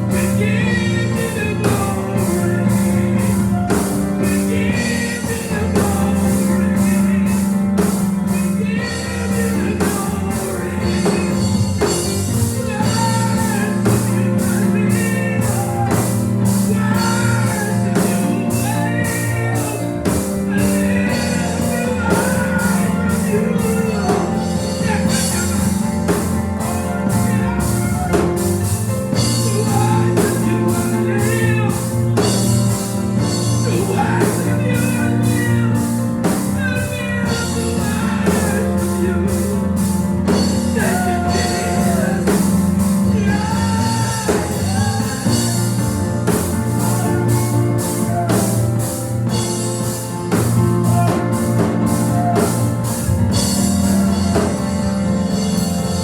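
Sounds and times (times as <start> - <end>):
voices singing and shouting: 0.0 - 55.7
live gospel band music: 0.0 - 56.0.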